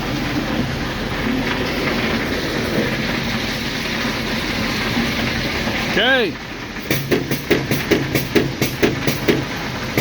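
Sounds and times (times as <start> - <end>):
low engine drone: 0.0 - 10.0
train running: 0.0 - 10.0.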